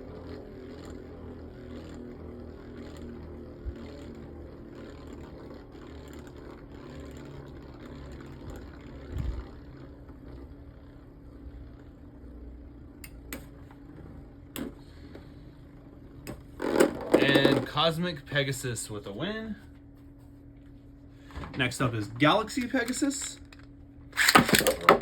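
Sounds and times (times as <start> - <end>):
spinning tops whirring: 0.0 - 19.5, 21.7 - 25.0.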